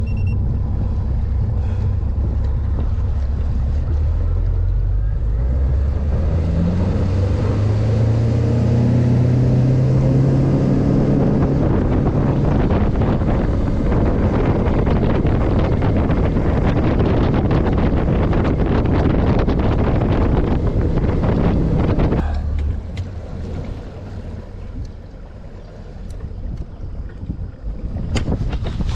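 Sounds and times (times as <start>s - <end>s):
wind noise on microphone: 0.0s - 25.1s, 26.0s - 28.9s
engine speeding up: 0.0s - 28.9s.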